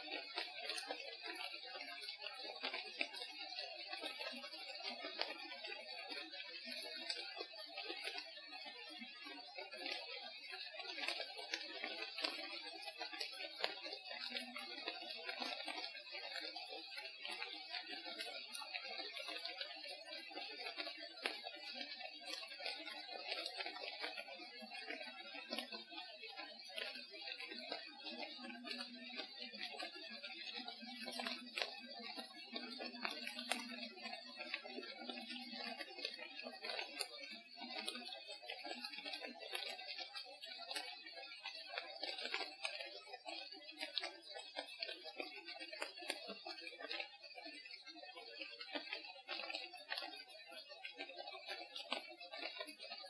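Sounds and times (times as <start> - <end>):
crackling murmuring background: 0.0 - 53.0.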